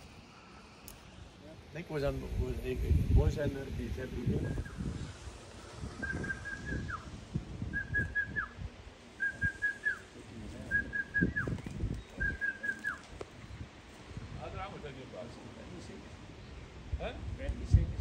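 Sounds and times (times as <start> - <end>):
wind buffeting microphone: 1.2 - 14.9, 16.2 - 18.0.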